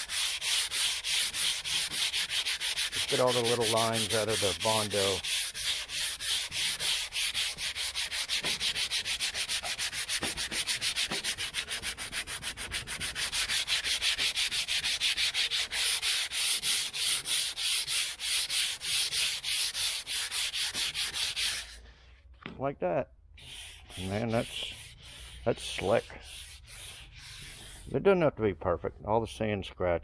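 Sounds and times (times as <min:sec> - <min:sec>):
sandpaper rubbing by hand: 0:00.0 - 0:21.8, 0:23.4 - 0:28.0.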